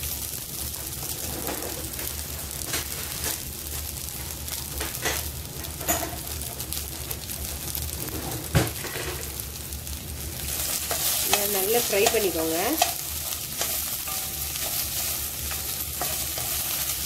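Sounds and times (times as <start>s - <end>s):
okra sizzling in pan: 0.0s - 17.0s.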